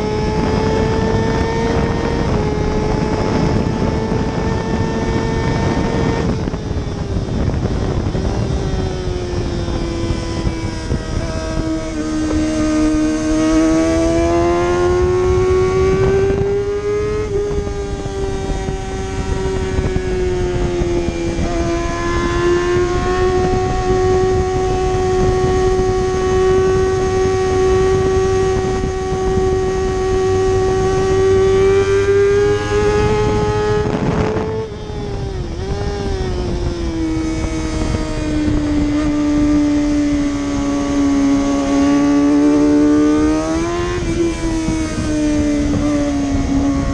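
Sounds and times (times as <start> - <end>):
racing motorcycle engine at high revs: 0.0 - 46.9.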